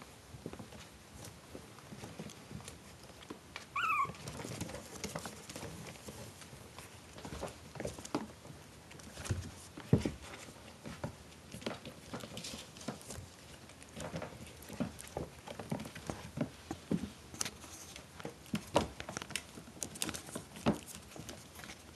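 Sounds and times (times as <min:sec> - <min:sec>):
puppies tapping and scuffling: 0:00.3 - 0:21.9.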